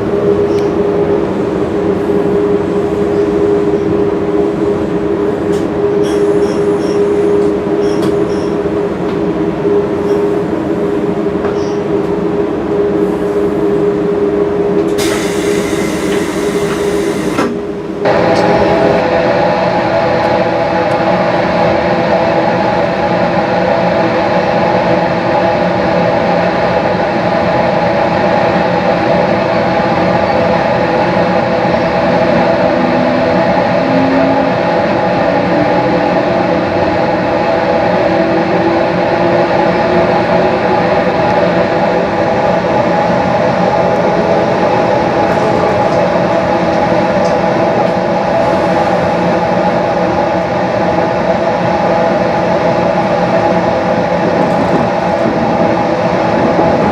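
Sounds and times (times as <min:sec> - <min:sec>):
train wheels rumbling: 0:00.0 - 0:56.9.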